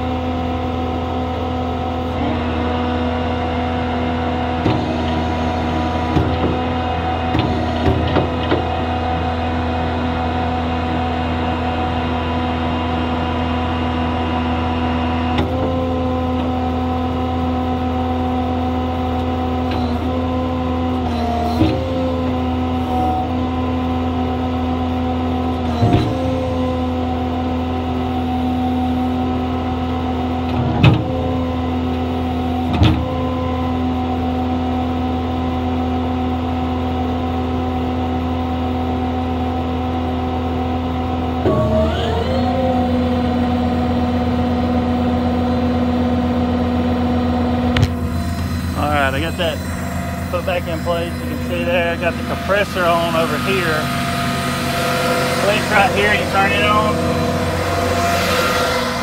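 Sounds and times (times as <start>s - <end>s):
diesel engine running: 0.0s - 59.0s
hydraulic pump whine: 0.0s - 59.0s.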